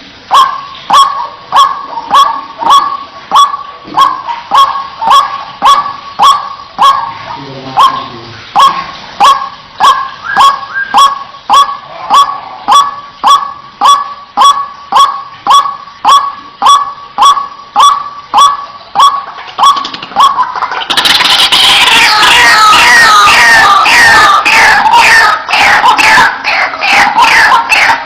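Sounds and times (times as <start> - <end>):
clamour of overlapping bird calls: 0.0 - 28.0
waterhen harsh calls: 0.1 - 28.0.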